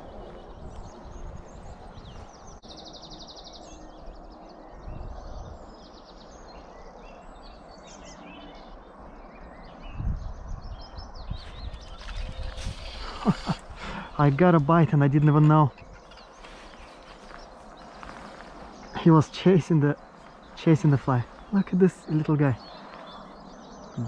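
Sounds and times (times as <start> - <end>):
songbirds singing and chirping: 0.0 - 24.0
steady outdoor hiss: 0.0 - 24.0.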